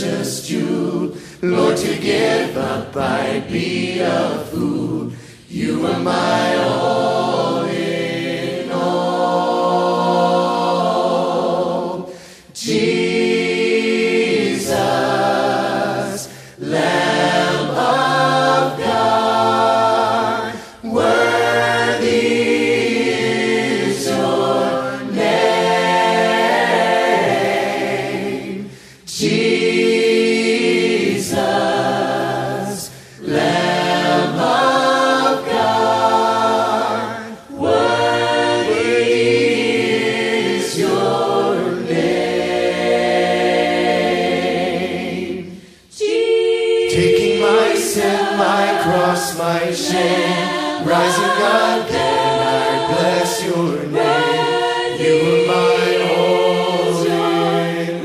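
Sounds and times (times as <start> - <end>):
group of voices singing: 0.0 - 58.0.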